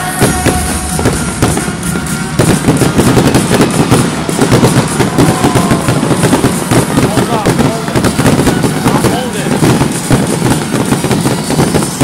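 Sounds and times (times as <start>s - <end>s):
fireworks bangs and crackling: 0.0s - 12.0s
music: 0.0s - 12.0s.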